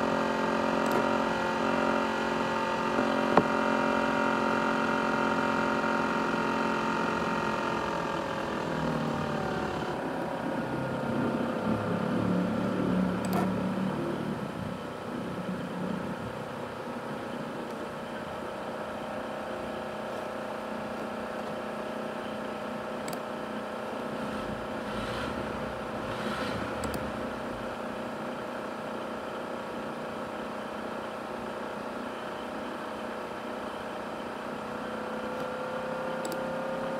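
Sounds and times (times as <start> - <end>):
laptop cooling fan whining: 0.0 - 36.9.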